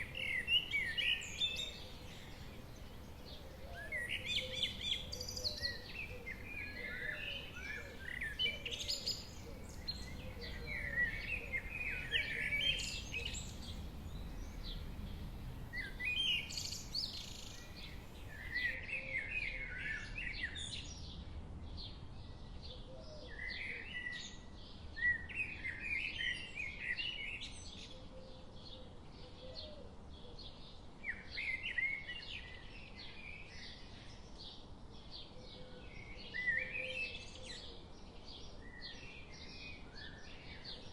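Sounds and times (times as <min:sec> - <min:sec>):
faint low background noise: 0:00.0 - 0:40.9
songbirds chirping: 0:00.0 - 0:40.9.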